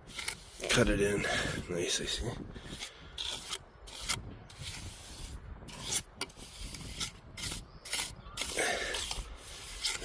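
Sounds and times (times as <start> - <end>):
steel tool scraping mortar and brick: 0.0 - 1.6, 2.6 - 10.0.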